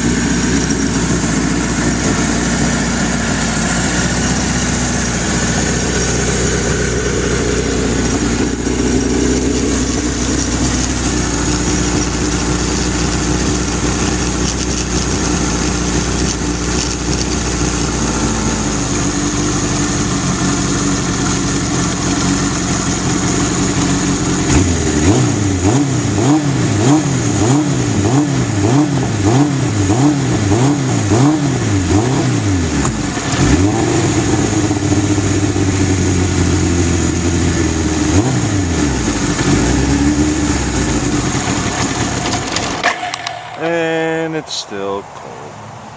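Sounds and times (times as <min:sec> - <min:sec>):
motorcycle engine idling and revving: 0:00.0 - 0:45.9.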